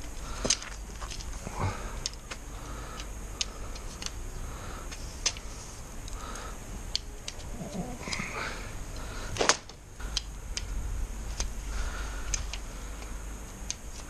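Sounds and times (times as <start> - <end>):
tent poles clicking together: 0.0 - 4.2, 4.9 - 11.6, 12.2 - 14.0.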